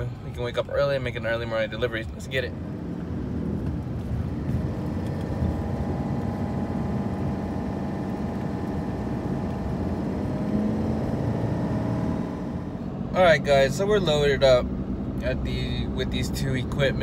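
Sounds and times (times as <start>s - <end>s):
diesel pickup engine running: 0.0s - 17.0s.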